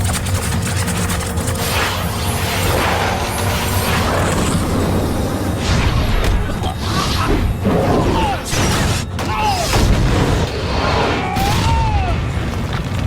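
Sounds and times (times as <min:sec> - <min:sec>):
dramatic score: 0:00.0 - 0:13.0.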